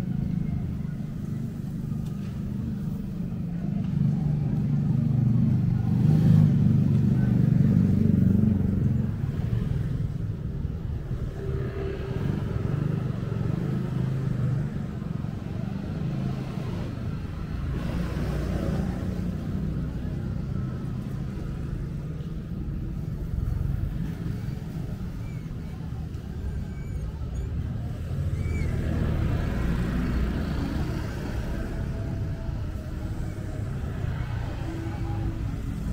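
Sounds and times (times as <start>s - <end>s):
low rumble of passing traffic: 0.0s - 35.9s
vehicle engine running close by: 0.0s - 35.9s.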